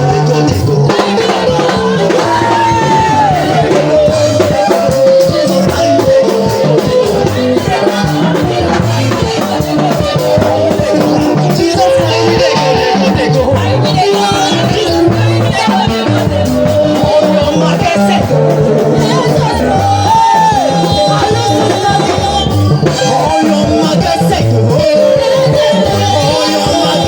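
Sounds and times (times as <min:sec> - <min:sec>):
bass line: 0:00.0 - 0:27.0
church band playing praise music: 0:00.0 - 0:27.0
drums keeping a steady beat: 0:00.0 - 0:27.0.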